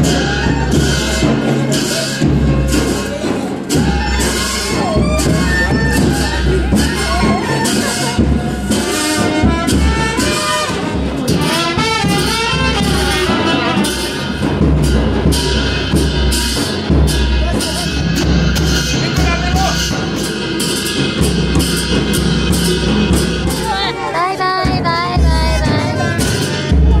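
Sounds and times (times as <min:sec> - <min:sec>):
shrill wind instrument melody: 0:00.0 - 0:21.9
drum beats: 0:00.0 - 0:27.0.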